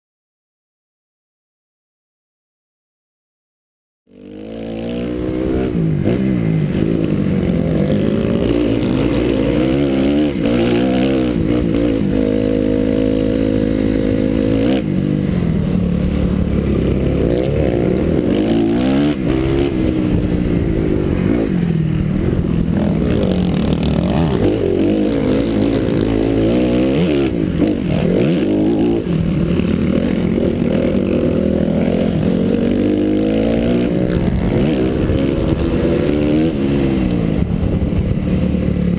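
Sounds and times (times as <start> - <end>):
motocross bike engine revving: 4.1 - 38.9.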